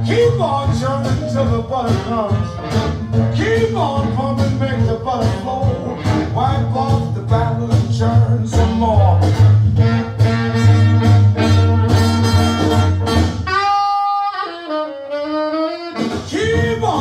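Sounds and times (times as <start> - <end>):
band music with bass and beat: 0.0 - 17.0.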